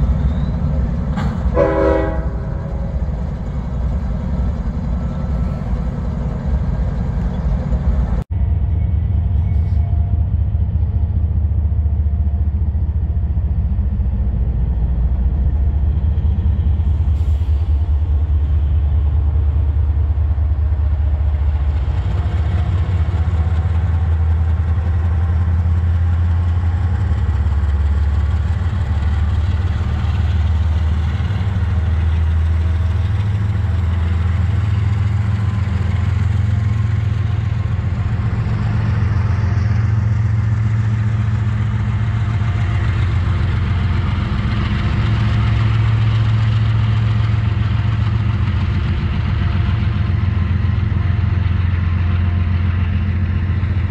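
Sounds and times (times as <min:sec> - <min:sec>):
locomotive engine idling: 0:00.0 - 0:53.9
rumble of moving train: 0:00.0 - 0:53.9.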